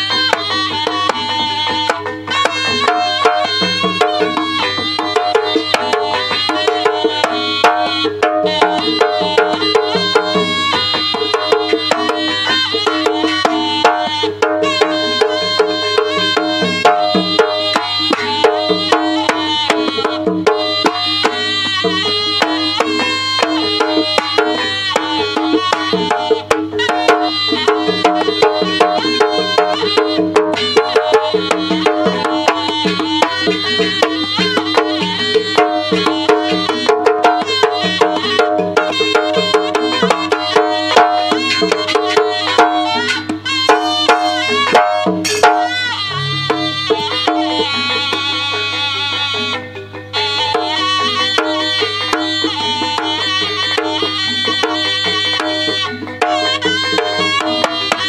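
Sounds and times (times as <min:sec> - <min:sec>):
hand drums and percussion rhythm: 0:00.0 - 0:58.0
quick pitched notes: 0:00.0 - 0:58.0
held drone: 0:00.1 - 0:48.6.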